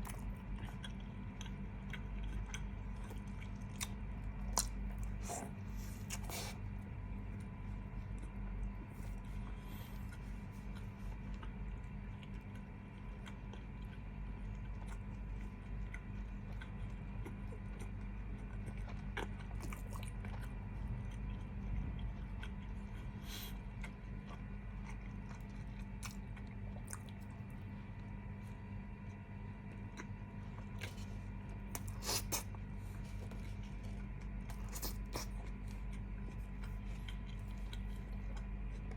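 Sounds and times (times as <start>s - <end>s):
low background hum: 0.0s - 38.9s
person chewing food: 0.0s - 38.9s.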